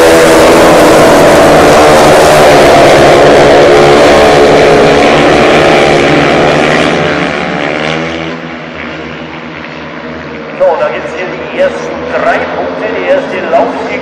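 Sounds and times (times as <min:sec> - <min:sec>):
motorcycles racing at full throttle: 0:00.0 - 0:14.0.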